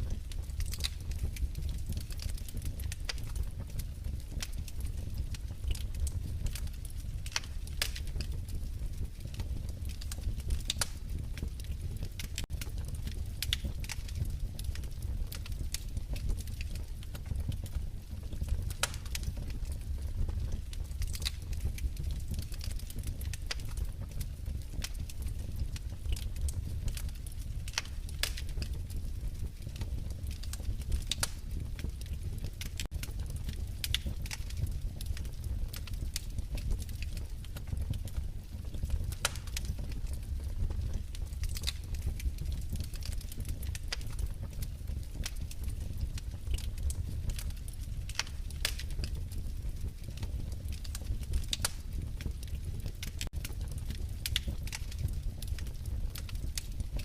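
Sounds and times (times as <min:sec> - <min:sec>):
low rumble of burning logs: 0:00.0 - 0:57.0
wood fire crackling: 0:00.0 - 0:57.0.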